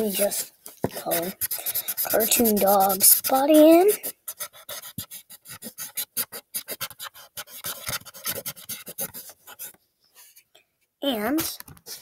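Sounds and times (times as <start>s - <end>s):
marker scribbling on paper: 0.0s - 9.8s.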